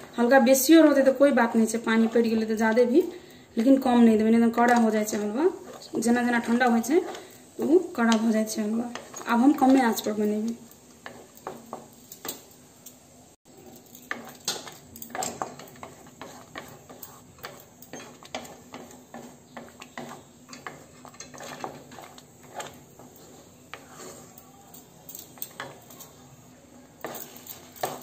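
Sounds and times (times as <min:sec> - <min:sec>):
wooden spatula scraping metal pan: 0:00.0 - 0:12.5, 0:13.5 - 0:24.4, 0:27.0 - 0:28.0.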